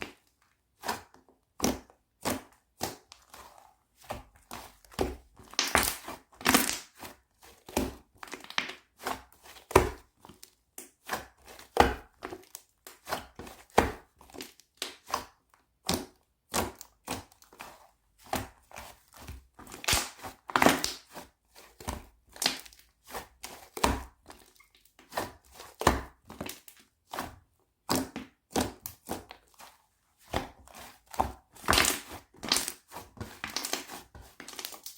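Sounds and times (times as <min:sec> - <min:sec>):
hands squishing slime: 0:00.0 - 0:34.9.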